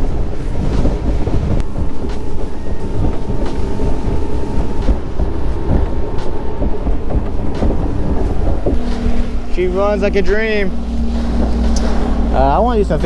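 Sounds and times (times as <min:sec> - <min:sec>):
outboard motor running: 0:00.0 - 0:13.0
wind on microphone: 0:00.0 - 0:13.0.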